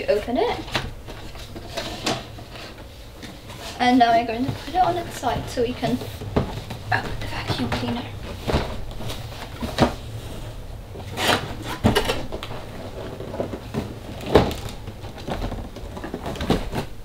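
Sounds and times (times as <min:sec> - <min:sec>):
cardboard scraping and rustling: 0:00.1 - 0:17.0.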